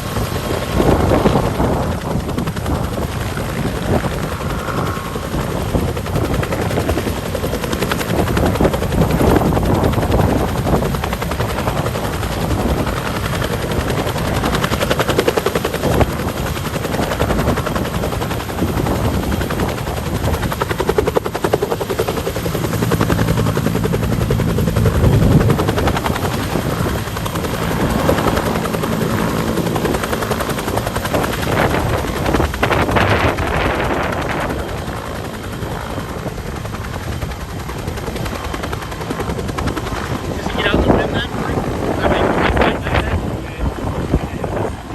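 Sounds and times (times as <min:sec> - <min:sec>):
helicopter rotor chopping: 0:00.0 - 0:44.9
turbine running: 0:00.0 - 0:44.9.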